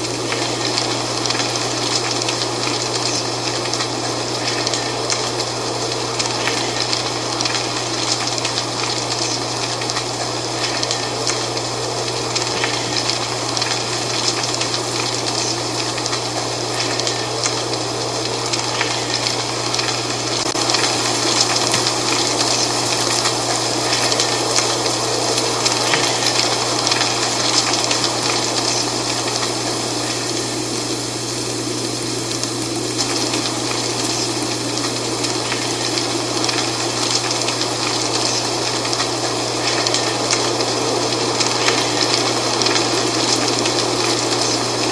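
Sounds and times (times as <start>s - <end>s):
dry leaves rustling in wind: 0.0s - 44.9s.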